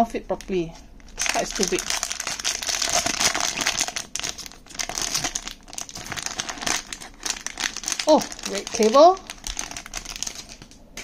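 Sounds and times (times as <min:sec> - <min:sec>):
plastic packaging crinkling: 0:01.0 - 0:11.0.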